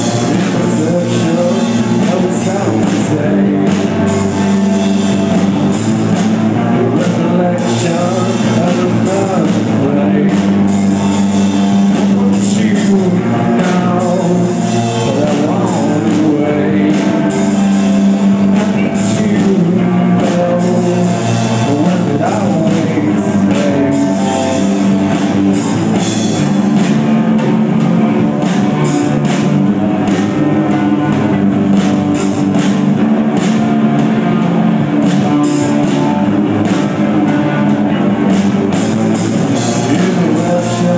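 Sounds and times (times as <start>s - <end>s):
person singing: 0.0s - 32.4s, 33.4s - 40.9s
bass guitar: 0.0s - 40.9s
distorted electric guitar: 0.0s - 40.9s
drum kit with cymbals: 0.0s - 40.9s.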